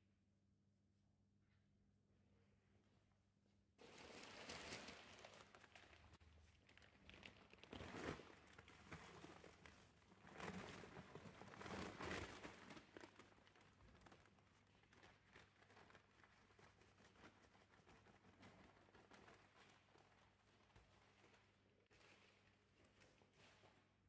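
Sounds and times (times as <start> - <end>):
flour sack rustling: 3.8 - 23.9.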